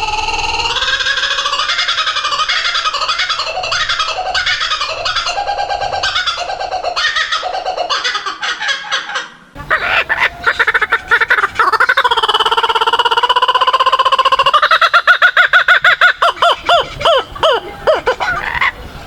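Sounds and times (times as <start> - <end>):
kookaburra laughing call: 0.2 - 18.8.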